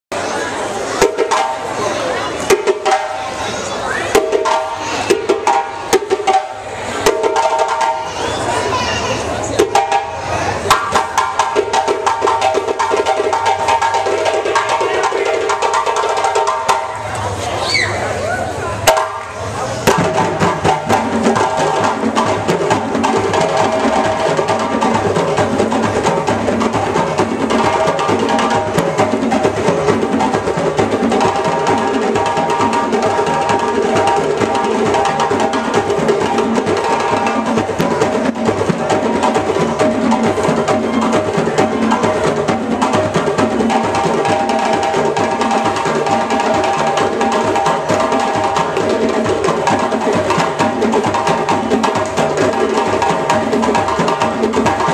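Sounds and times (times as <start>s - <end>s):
hand drum ensemble: 0.1s - 54.9s.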